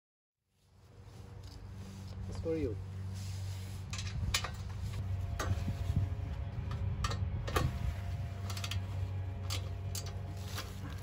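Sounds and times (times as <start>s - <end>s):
steady low hum: 0.5s - 11.0s.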